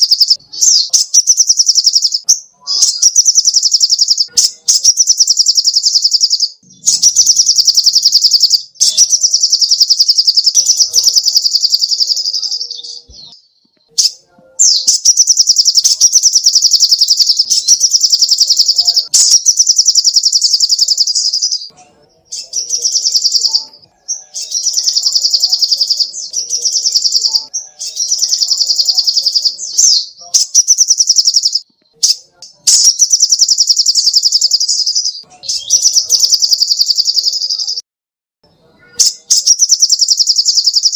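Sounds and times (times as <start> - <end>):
bird singing rapid trills: 0.0 - 37.8, 38.8 - 40.9.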